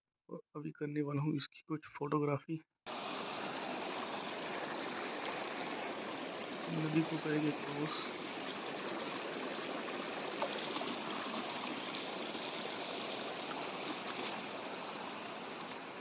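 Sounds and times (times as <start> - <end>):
river water rushing: 2.9 - 16.0.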